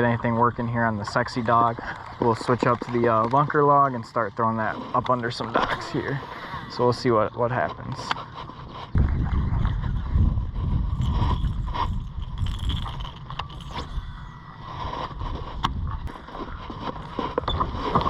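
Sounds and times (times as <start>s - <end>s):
small boat motor rumbling: 0.0s - 18.0s.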